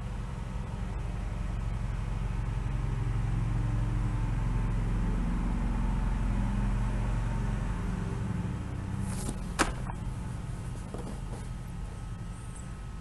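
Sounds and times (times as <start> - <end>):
low rumble with faint hum: 0.0 - 13.0.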